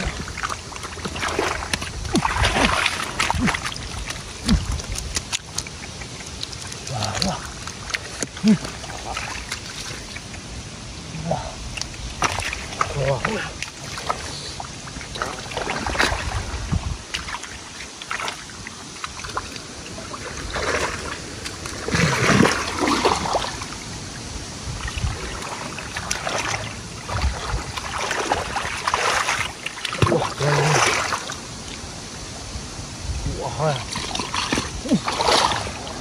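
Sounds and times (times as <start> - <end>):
water sloshing and splashing: 0.0 - 36.0.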